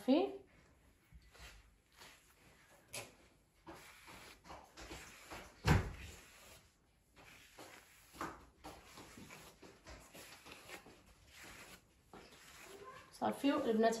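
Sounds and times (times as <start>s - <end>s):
comb brushing through hair: 0.9s - 14.0s.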